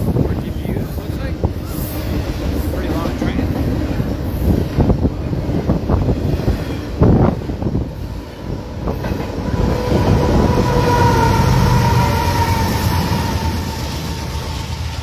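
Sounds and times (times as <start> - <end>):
diesel locomotive engine hum: 0.0 - 15.0
freight train rolling past: 0.0 - 15.0
locomotive steady whine: 0.0 - 15.0.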